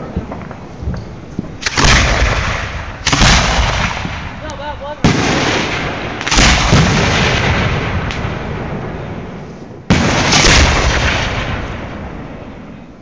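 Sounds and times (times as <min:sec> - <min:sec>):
firework shells booming: 0:00.0 - 0:13.0.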